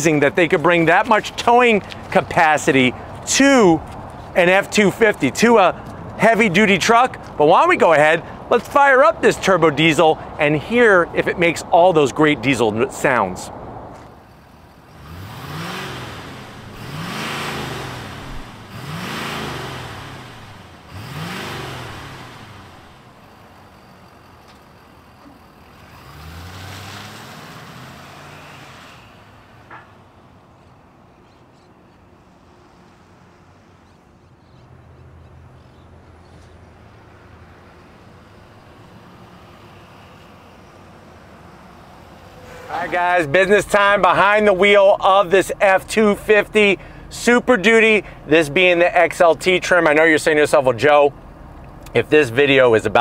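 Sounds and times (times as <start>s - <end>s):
diesel truck engine revving: 0.0s - 29.7s, 35.3s - 53.0s.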